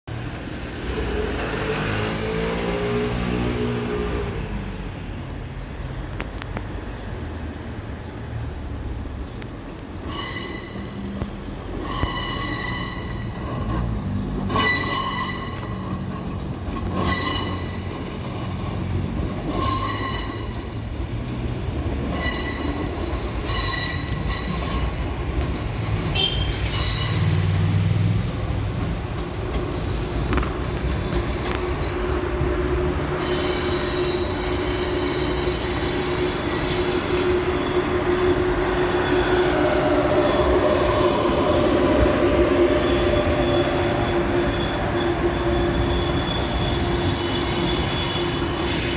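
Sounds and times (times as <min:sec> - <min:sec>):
train rumble: 0:00.1 - 0:48.9
train wheels squealing on rails: 0:07.5 - 0:48.9.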